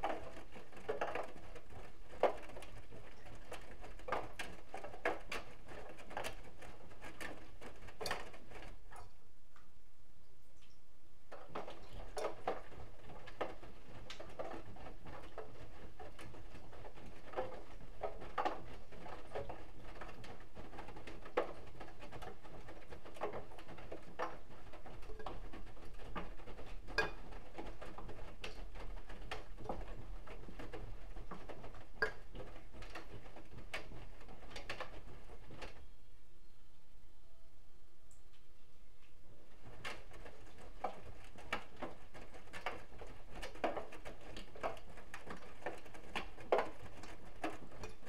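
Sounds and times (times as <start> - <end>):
laundry and water sloshing: 0.0 - 9.3, 10.6 - 36.0, 39.1 - 48.0.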